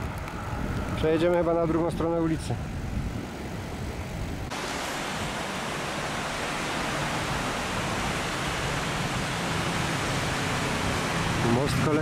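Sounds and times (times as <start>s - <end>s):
river rushing over rapids: 1.7s - 12.0s.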